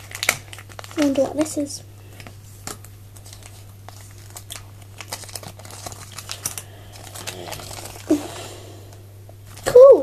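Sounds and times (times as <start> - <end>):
wrapping rustling: 0.0 - 10.0.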